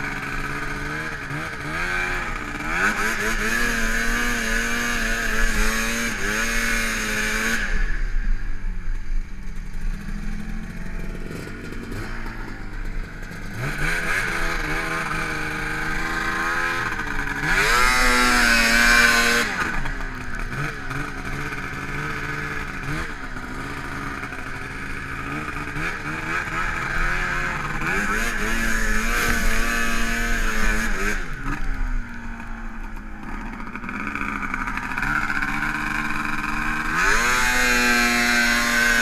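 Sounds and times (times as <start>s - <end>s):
snowmobile engine revving: 0.0s - 8.4s, 9.6s - 39.0s.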